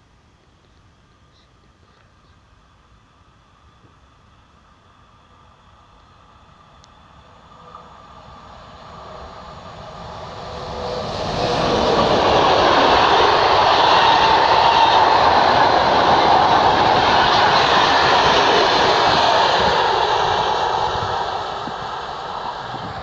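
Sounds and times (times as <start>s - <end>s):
train passing with rolling noise: 0.0s - 23.0s.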